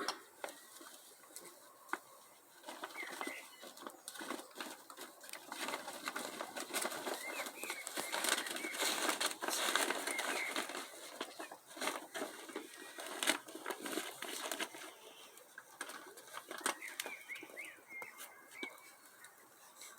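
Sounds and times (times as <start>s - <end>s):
bird rustling and scratching: 0.4s - 19.9s.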